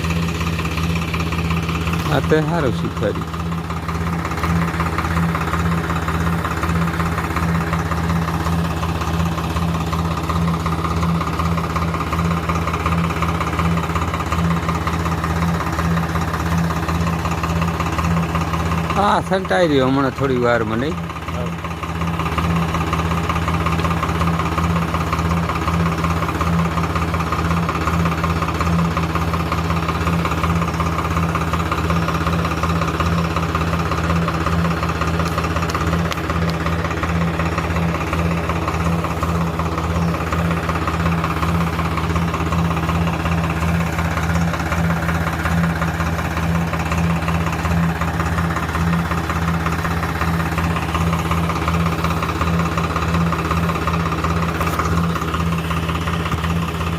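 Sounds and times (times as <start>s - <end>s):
crop sprayer engine running: 0.0s - 56.9s.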